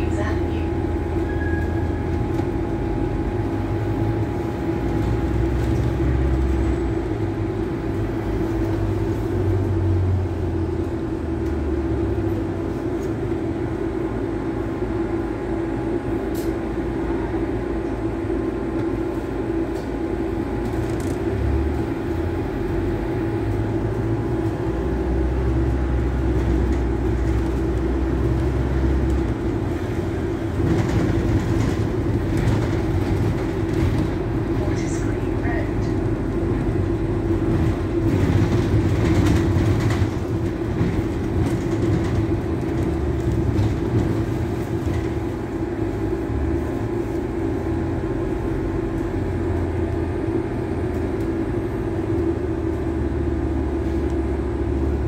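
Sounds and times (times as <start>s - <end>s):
bus engine hum: 0.0s - 55.0s.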